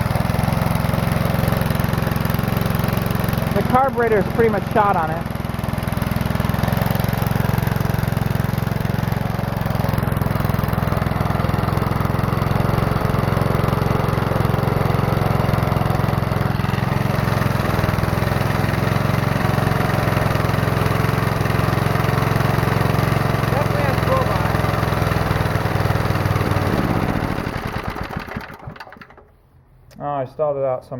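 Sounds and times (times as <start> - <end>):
small engine running roughly: 0.0 - 29.5.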